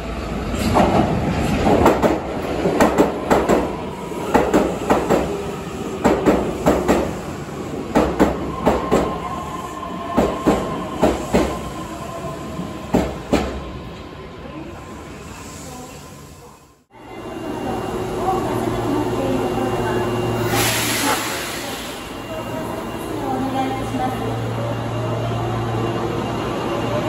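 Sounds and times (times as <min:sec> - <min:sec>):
steady train whine: 0:00.0 - 0:27.0.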